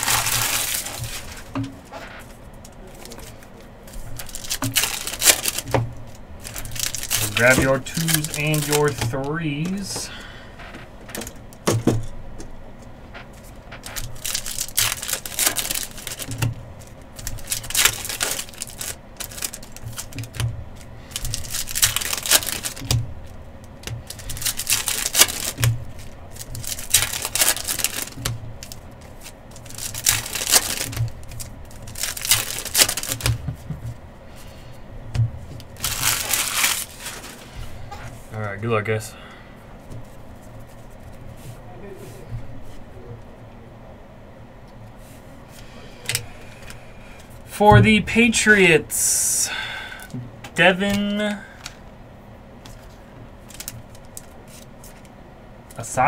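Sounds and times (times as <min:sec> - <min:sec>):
foil packs crinkling: 0:00.0 - 0:11.5, 0:13.2 - 0:34.7, 0:35.4 - 0:39.0, 0:46.0 - 0:47.6, 0:48.2 - 0:52.0, 0:52.6 - 0:56.0.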